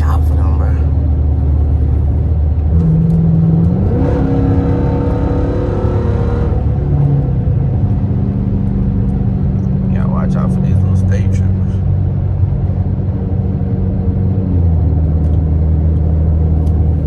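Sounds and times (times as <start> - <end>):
car exhaust revving: 0.0 - 17.0.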